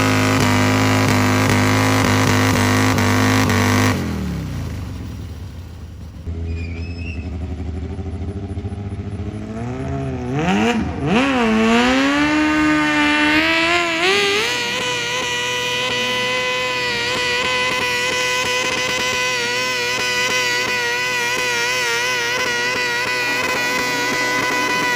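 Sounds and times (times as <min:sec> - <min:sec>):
tractor engine revving: 0:00.0 - 0:24.9.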